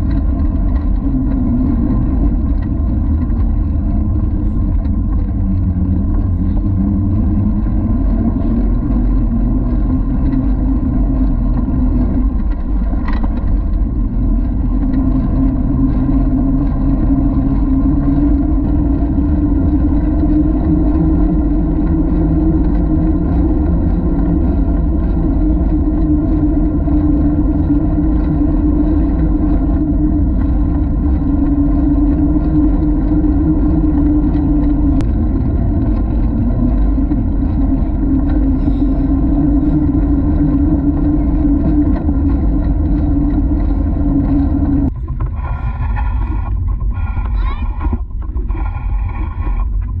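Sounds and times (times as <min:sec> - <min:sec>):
bicycle tyres rolling on concrete: 0:00.0 - 0:50.0
wind rushing over microphone: 0:00.0 - 0:50.0.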